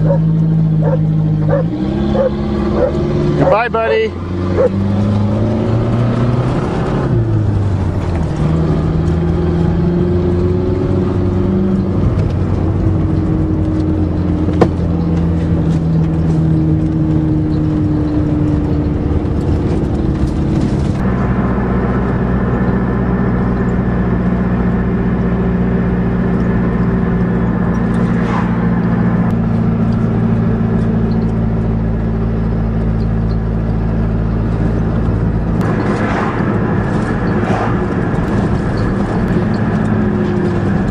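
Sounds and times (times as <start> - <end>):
car engine under load: 0.0 - 40.9.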